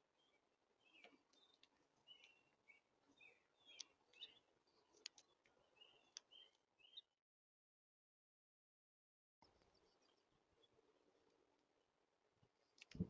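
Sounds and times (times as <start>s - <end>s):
songbirds chirping faintly: 0.0s - 7.2s, 9.4s - 13.0s.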